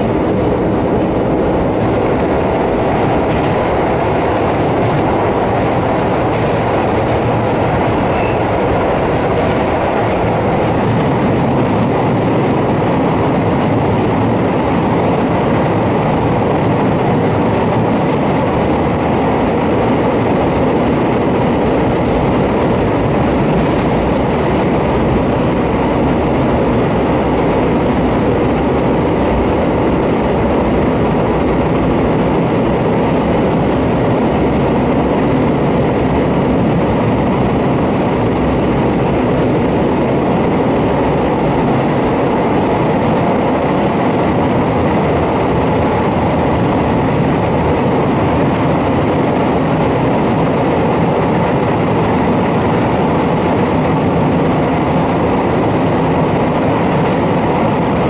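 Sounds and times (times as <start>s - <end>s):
train running noise from inside: 0.0s - 58.0s.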